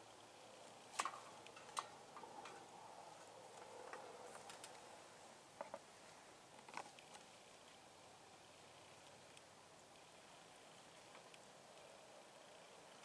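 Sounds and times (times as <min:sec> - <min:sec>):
faint sharp ticks and crackles: 0:00.0 - 0:04.9, 0:06.5 - 0:13.0.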